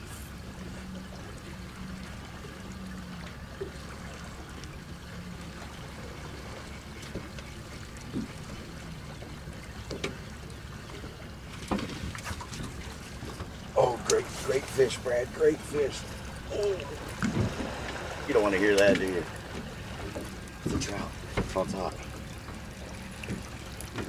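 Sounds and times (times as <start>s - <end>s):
water lapping against boat hull: 0.0s - 24.0s
wind and water noise: 0.0s - 24.0s
small knocks and splashes: 3.2s - 15.2s, 15.9s - 24.0s.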